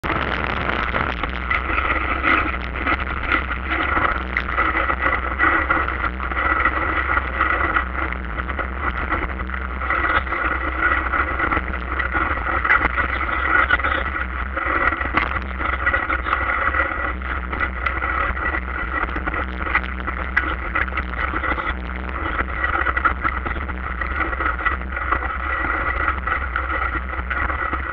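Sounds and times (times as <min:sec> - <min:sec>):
bicycle rumbling over dirt track: 0:00.0 - 0:27.9
constant high hum: 0:00.0 - 0:27.9.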